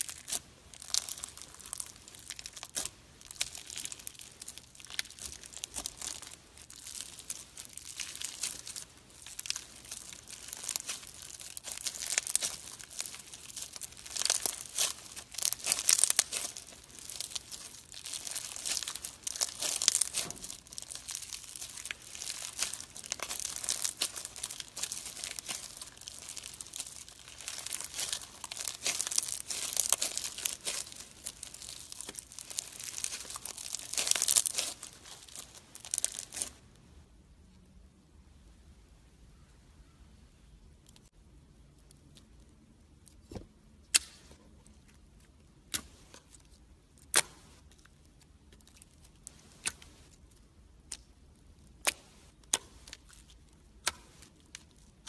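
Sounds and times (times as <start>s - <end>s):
crunchy slime crackling: 0.0s - 36.6s, 44.7s - 55.0s.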